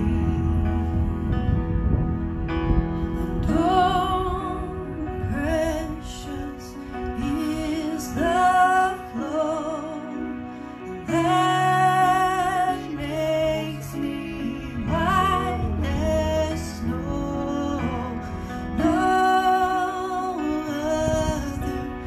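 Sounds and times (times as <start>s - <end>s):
electronic keyboard chords: 0.0s - 22.0s
woman singing a hymn: 3.2s - 22.0s.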